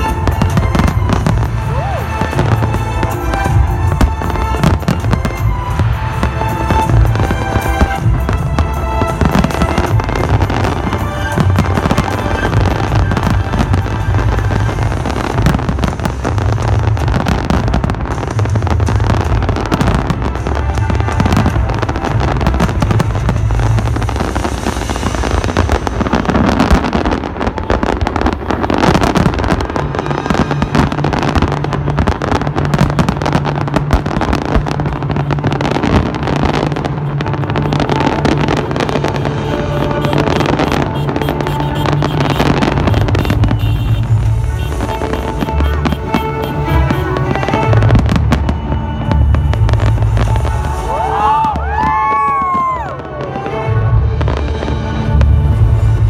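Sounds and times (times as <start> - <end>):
fireworks bangs and crackling: 0.0 - 56.0
music playing: 0.0 - 56.0
steady low drone: 0.0 - 56.0.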